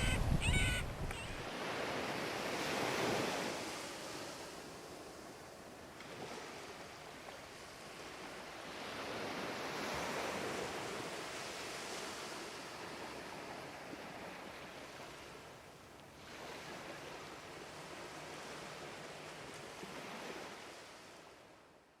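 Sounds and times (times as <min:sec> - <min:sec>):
ocean surf on a beach: 0:00.0 - 0:21.6.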